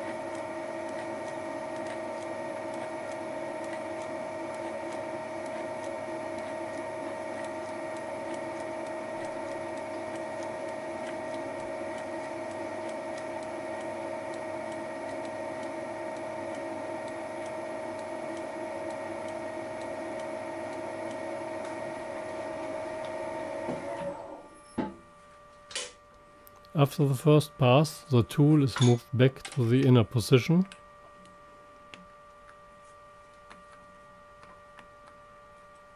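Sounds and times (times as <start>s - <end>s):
milling machine hum and whine: 0.0s - 35.9s.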